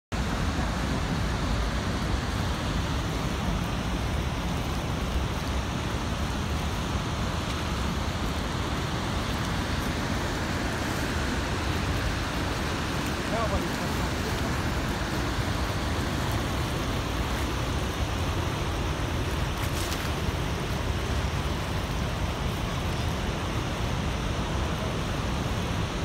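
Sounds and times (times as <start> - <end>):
waterfall roaring: 0.2 - 26.0.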